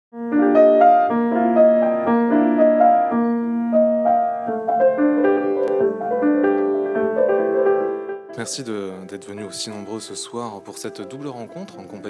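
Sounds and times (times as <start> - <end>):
solo piano music: 0.1 - 12.0.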